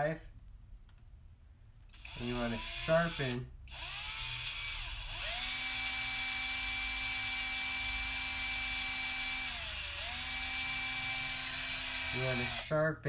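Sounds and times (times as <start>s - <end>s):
cordless drill running: 1.9s - 12.7s.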